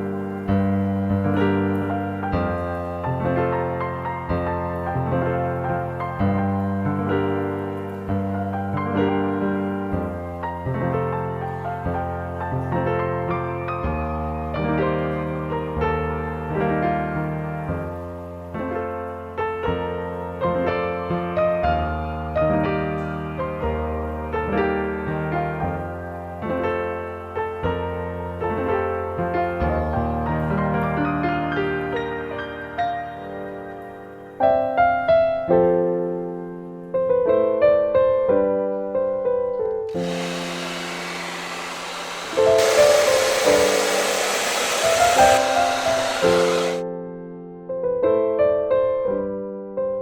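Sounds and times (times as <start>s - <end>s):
gentle piano music: 0.0s - 40.2s, 45.3s - 50.0s.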